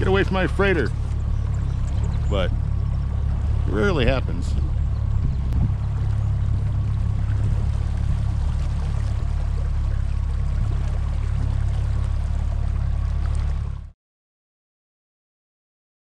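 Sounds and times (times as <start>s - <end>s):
water washing along boat: 0.0s - 13.9s
outboard motor droning: 0.0s - 14.0s.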